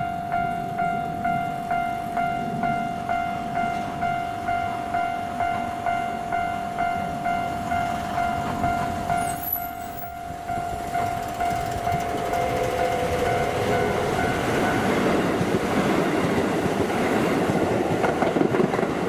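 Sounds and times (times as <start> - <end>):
level-crossing warning bell: 0.0 - 17.3
electric train running: 0.0 - 19.0.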